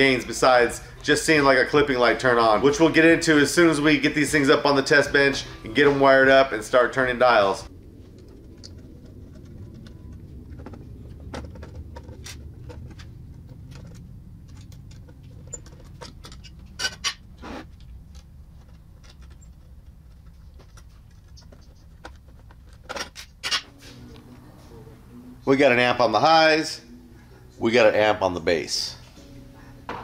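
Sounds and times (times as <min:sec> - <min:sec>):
low steady rumble: 0:00.0 - 0:27.7.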